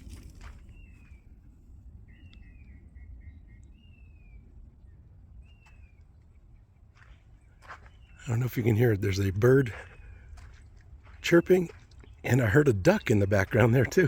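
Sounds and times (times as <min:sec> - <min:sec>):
low wind rumble: 0:00.0 - 0:14.0.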